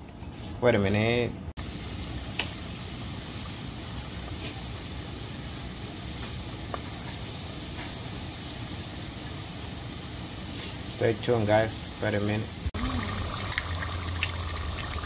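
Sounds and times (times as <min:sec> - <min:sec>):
oil bubbling and sizzling: 0:01.6 - 0:15.0.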